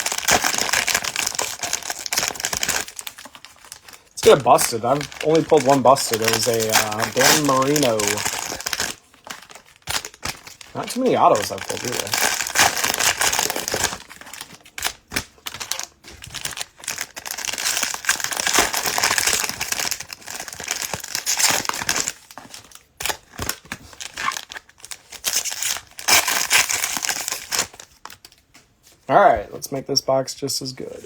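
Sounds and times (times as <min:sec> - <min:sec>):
plastic wrappers tearing and crinkling: 0:00.0 - 0:28.5.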